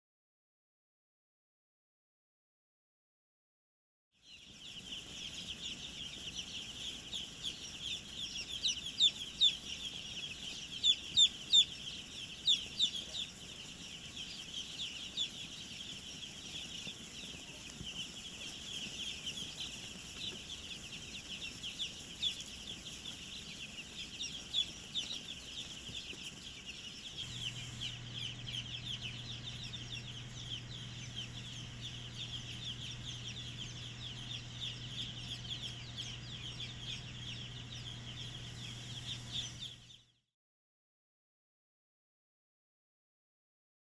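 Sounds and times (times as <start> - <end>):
chicks peeping: 4.2 - 40.2
low steady hum: 4.3 - 40.1.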